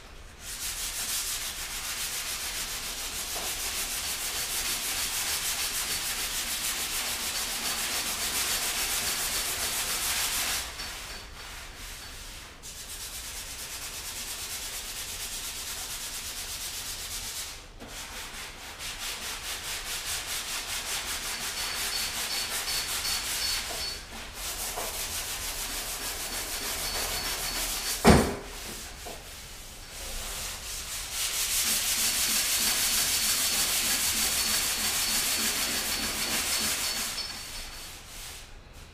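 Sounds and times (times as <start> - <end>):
hand sanding metal panel: 0.4 - 38.5.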